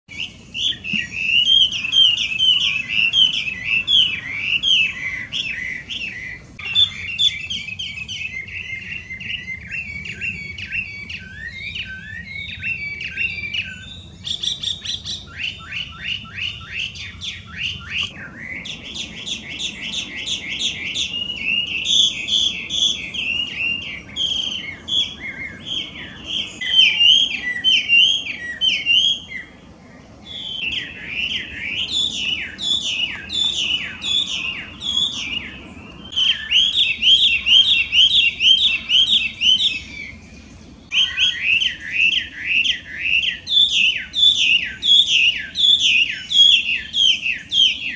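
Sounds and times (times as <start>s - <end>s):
bird singing whistled song: 0.1s - 29.6s, 30.2s - 47.9s.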